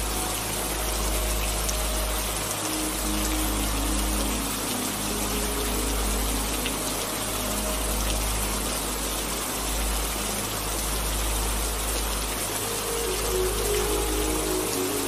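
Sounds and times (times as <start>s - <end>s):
faint held music tones: 0.0s - 15.0s
heavy rain hissing: 0.0s - 15.0s.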